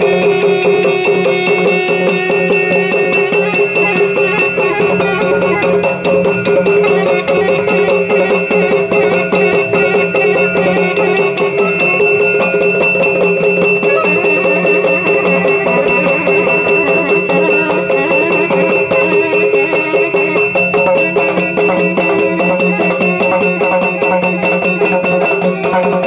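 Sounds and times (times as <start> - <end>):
fast hourglass drum drumming: 0.0 - 26.0
steady held tones: 0.0 - 26.0.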